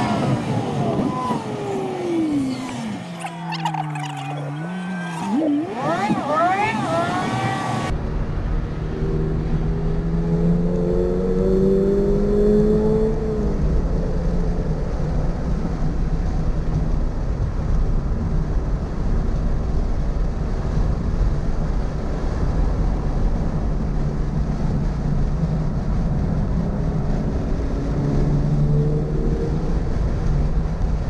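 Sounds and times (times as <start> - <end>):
car engine at speed: 0.0 - 31.0
road noise: 0.0 - 31.0.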